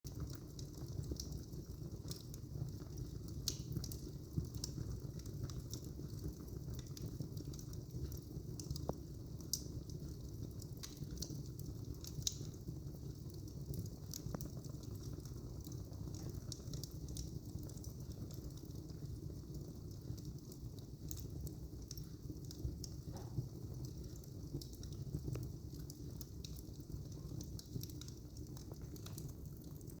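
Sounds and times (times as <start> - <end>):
fire crackles and pops: 0.1 - 30.0
fire rumbling in a fireplace: 0.1 - 30.0.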